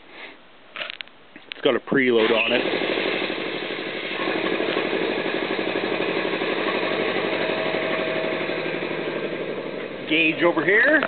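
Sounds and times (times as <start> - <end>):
air compressor running: 1.9 - 11.0.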